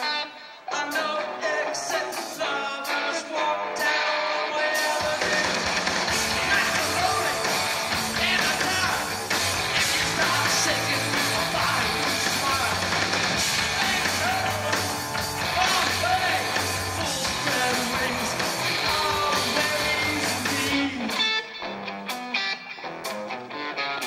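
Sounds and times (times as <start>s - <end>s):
person singing: 0.0s - 21.6s
distorted electric guitar: 0.0s - 24.0s
drums: 0.0s - 24.0s.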